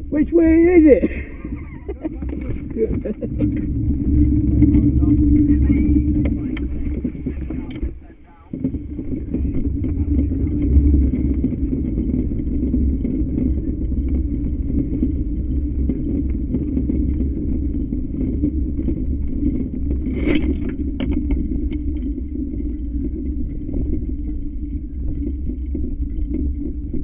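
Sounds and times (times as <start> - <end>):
cart wheels rumbling on tarmac: 0.0 - 27.0.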